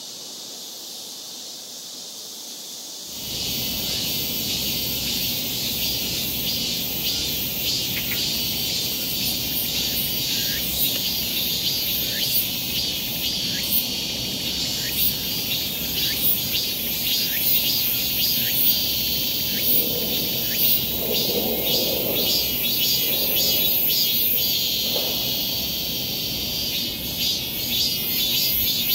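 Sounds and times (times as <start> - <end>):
insects chorus: 0.0 - 28.9
low background noise: 0.0 - 28.9
short insect chirps: 3.1 - 28.9.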